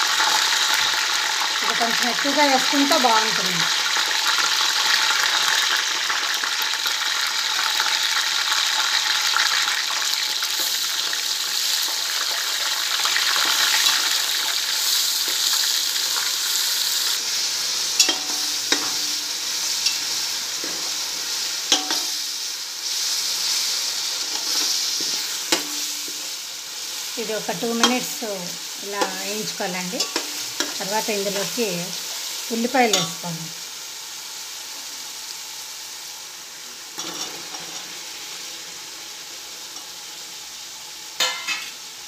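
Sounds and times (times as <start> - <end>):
paste sizzling in hot oil: 0.0 - 42.0.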